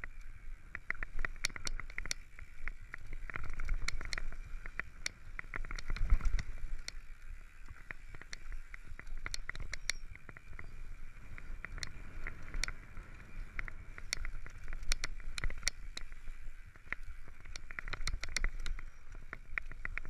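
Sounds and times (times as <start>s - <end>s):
bike and stones rattling: 0.0s - 20.0s
wind noise on microphone: 3.0s - 6.9s, 7.6s - 20.0s.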